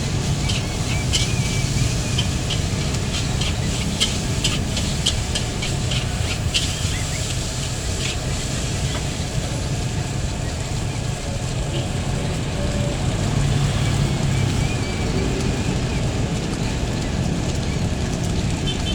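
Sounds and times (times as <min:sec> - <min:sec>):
food sizzling: 0:00.0 - 0:18.9.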